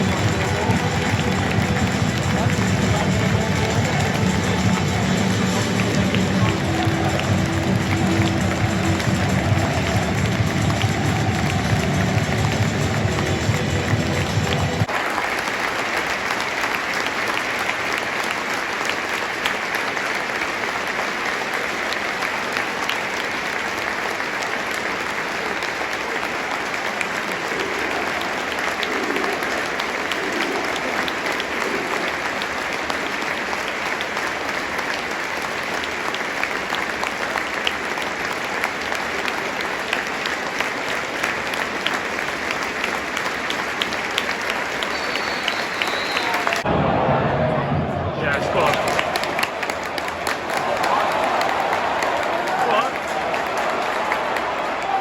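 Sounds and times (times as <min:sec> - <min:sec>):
stadium crowd applauding: 0:00.0 - 0:55.0.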